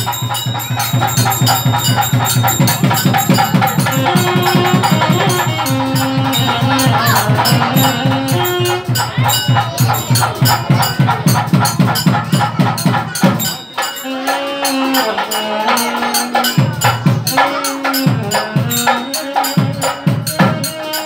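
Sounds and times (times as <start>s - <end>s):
fast driving percussion: 0.0s - 21.0s.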